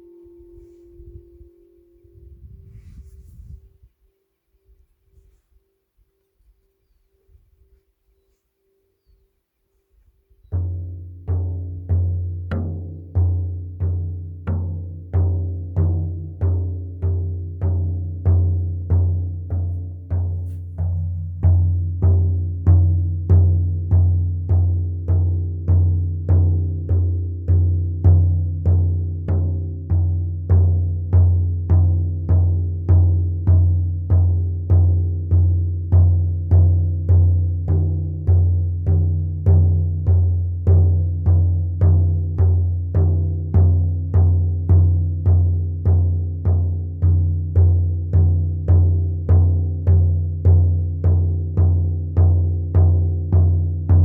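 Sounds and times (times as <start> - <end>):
frame drum beaten steadily: 10.6 - 54.0.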